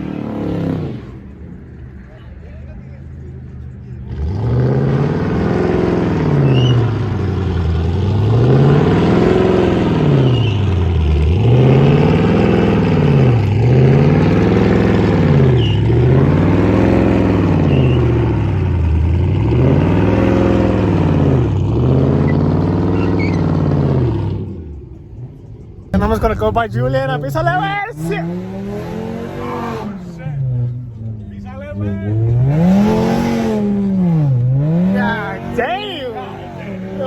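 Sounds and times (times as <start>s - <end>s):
car engine revving: 0.0s - 2.1s, 2.8s - 37.0s.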